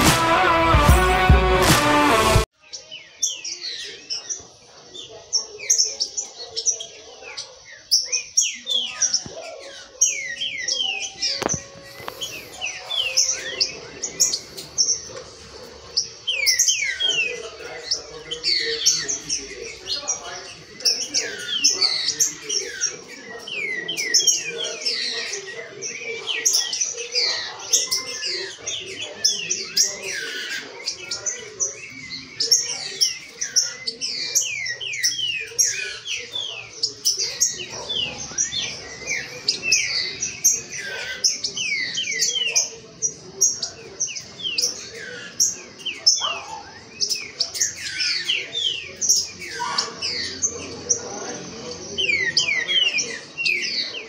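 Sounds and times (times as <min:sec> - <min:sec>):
birds singing and calling: 0:00.0 - 0:54.0.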